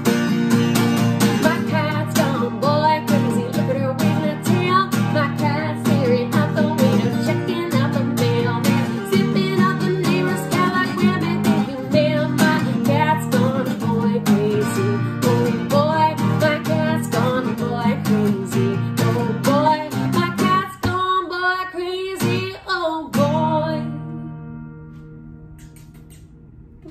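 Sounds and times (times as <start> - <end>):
acoustic guitar strumming: 0.0 - 26.9
woman singing: 1.2 - 24.4.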